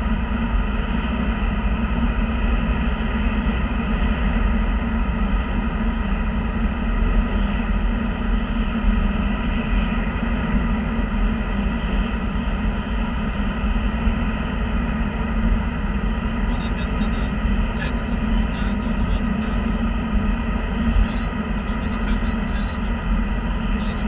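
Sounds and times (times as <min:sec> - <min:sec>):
car road noise at highway speed: 0:00.0 - 0:24.0.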